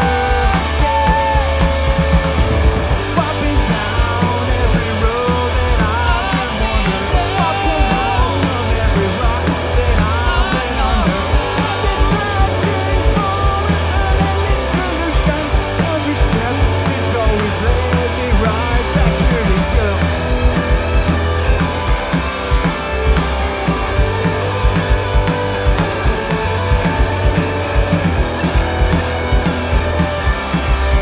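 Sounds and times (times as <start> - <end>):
punk rock band playing: 0.0 - 31.0.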